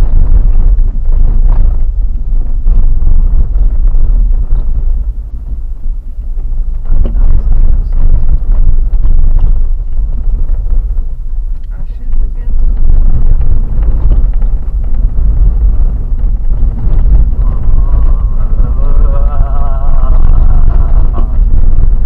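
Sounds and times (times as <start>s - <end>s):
vehicle rumbling over gravel: 0.0s - 22.0s
wind noise on microphone: 0.0s - 22.0s.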